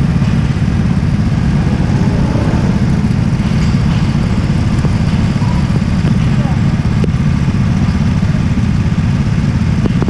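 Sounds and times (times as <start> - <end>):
go-kart engine idling: 0.0 - 10.0.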